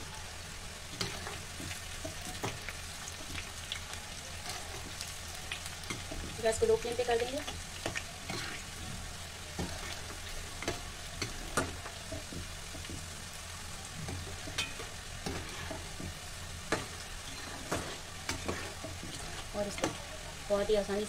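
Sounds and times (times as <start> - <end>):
dough sizzling in hot oil: 0.0 - 21.0
metal spoon scraping a pan: 0.9 - 3.5, 4.4 - 9.0, 9.6 - 12.9, 14.0 - 20.4.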